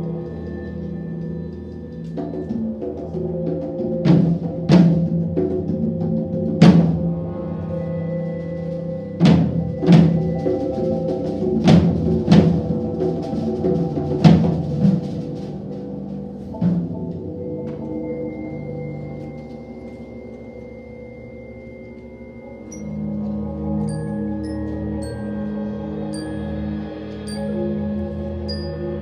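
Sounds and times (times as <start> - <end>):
marimbas ringing tones: 0.0 - 29.0.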